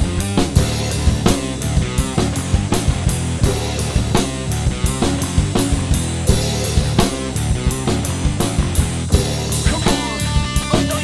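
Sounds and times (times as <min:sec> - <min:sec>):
drum kit playing rock groove: 0:00.0 - 0:11.0
rock backing track: 0:00.0 - 0:11.0.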